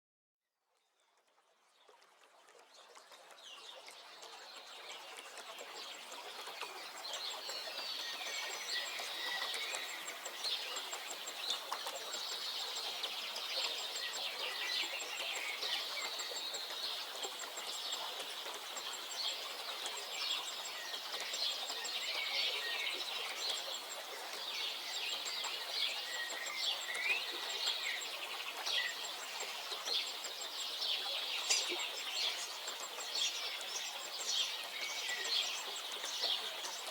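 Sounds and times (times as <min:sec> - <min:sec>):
songbirds singing and chirping: 0:02.8 - 0:36.9.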